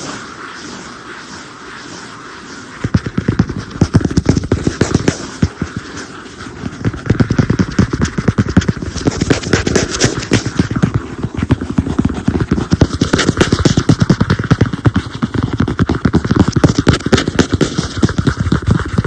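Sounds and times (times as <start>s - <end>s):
fast tapping on tablet screen: 2.8s - 19.0s.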